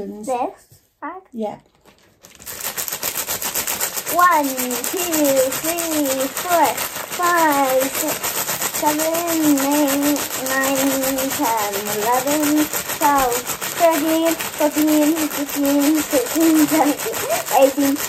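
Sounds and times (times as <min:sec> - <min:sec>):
person counting: 0:00.0 - 0:18.0
plastic bag crinkling: 0:01.6 - 0:18.0.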